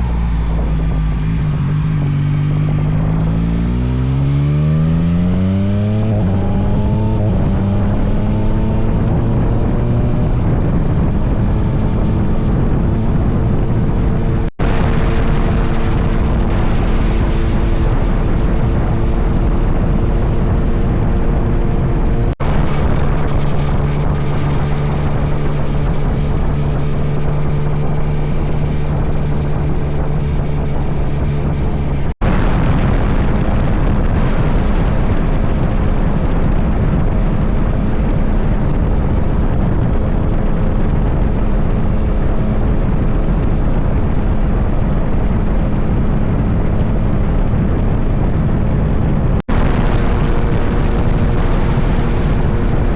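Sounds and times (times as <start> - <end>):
motorcycle engine drone: 0.0 - 52.9
wind noise on microphone: 0.0 - 52.9.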